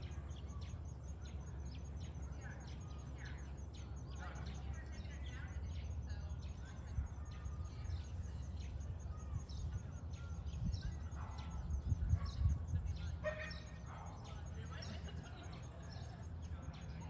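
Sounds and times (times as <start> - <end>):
low uneven rumble: 0.0 - 17.0
songbirds chirping: 0.0 - 17.0.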